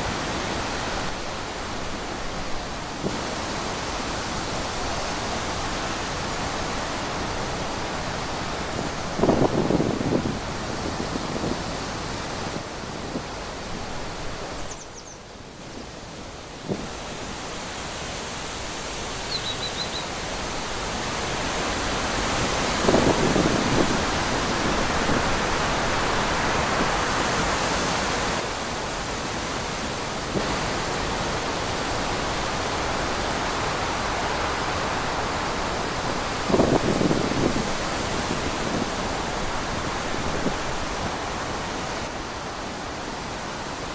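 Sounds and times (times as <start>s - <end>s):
wind blowing through trees: 0.0s - 43.9s.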